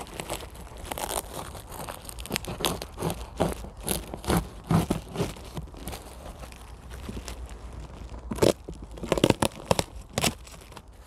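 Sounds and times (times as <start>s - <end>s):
cardboard flaps crackling: 0.0s - 11.0s
packing tape ripping: 0.0s - 11.0s.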